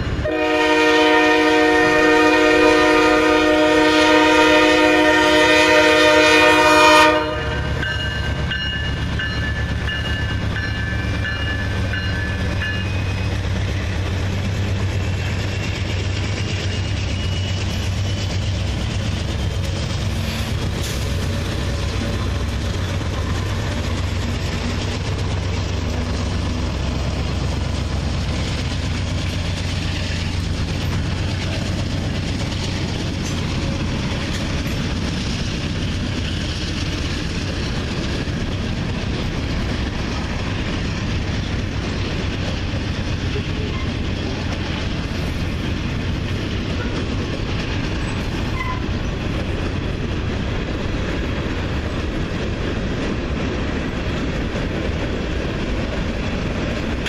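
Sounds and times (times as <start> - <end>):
diesel locomotive passing: 0.0 - 57.0
freight cars rumbling on rails: 0.0 - 57.0.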